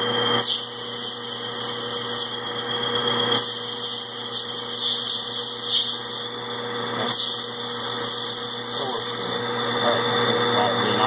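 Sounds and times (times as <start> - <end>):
lathe motor whine: 0.0 - 11.0.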